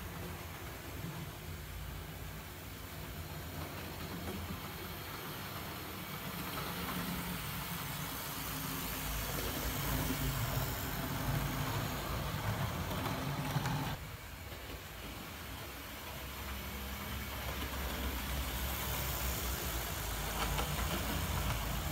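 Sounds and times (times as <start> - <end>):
model train motor hum: 0.0 - 21.9
rumble of model train wheels: 0.0 - 21.9.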